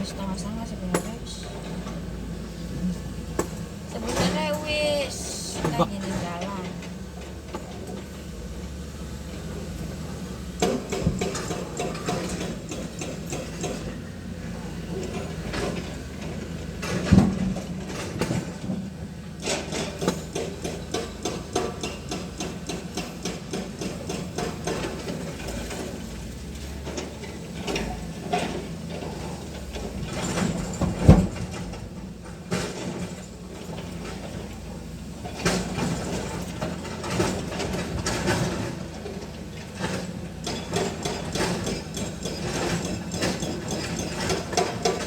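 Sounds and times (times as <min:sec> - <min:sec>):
engine running: 0:00.0 - 0:45.0.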